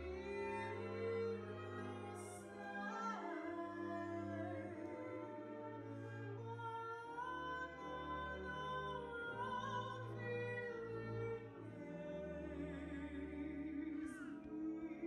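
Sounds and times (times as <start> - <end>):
operatic singing voice: 0.0 - 15.0.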